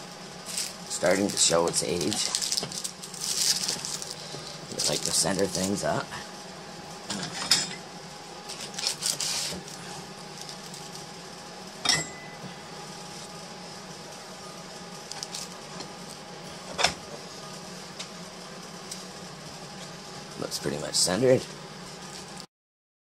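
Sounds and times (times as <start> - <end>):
steady hum: 0.0 - 22.5.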